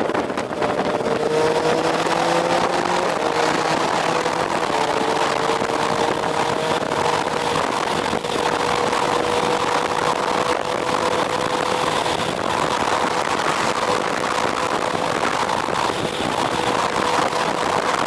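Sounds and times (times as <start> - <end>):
motorcycle engine cruising: 0.0 - 18.0
wind noise rushing: 0.0 - 18.0.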